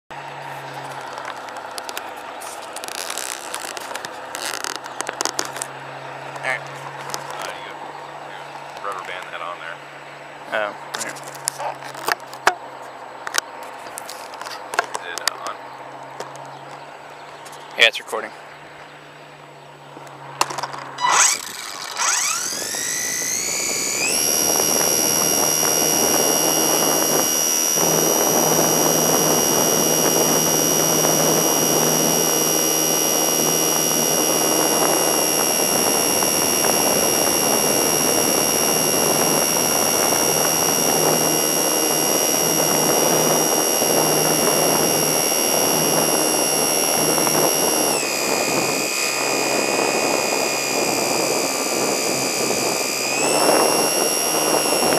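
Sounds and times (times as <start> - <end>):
electric motor and propeller whine: 0.0 - 54.9.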